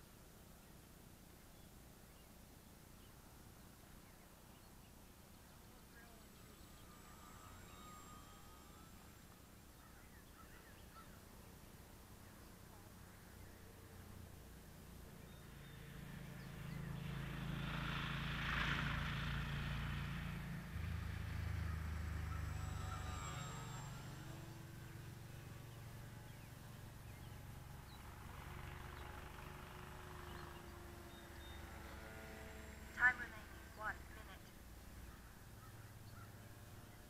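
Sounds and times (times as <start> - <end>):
model plane motor buzzing: 5.0 - 37.0.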